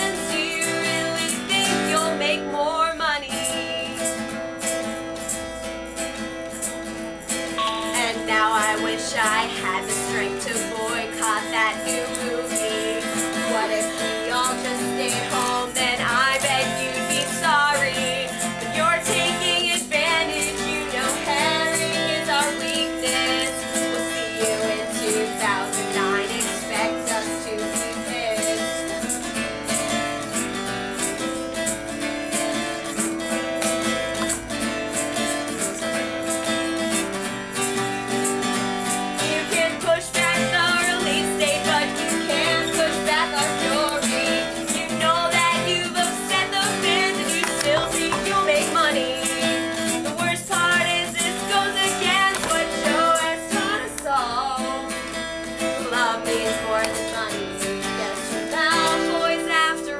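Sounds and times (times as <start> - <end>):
woman singing: 0.0 - 4.4, 7.6 - 30.4, 35.2 - 36.9, 38.9 - 59.9
acoustic guitar strumming: 0.0 - 59.9.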